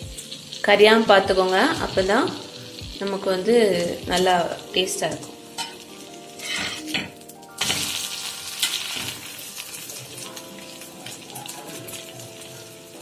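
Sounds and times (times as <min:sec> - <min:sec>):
omelette sizzling: 0:00.0 - 0:13.0.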